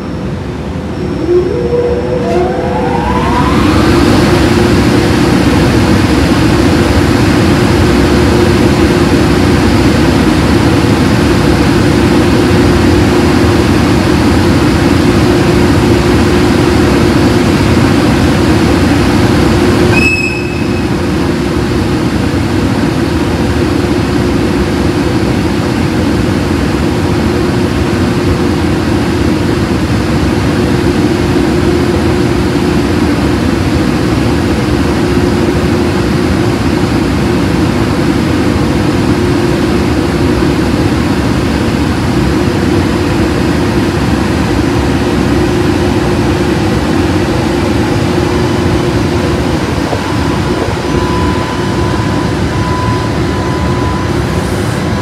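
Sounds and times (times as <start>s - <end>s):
locomotive cooling blowers running: 0.0s - 55.0s.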